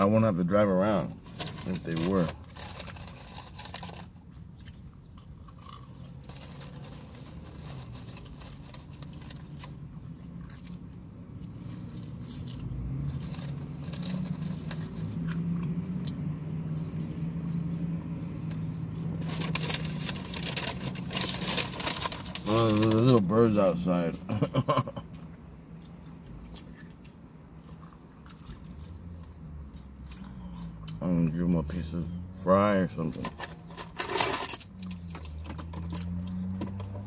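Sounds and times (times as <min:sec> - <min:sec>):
car engine hum from cabin: 0:00.0 - 0:37.0.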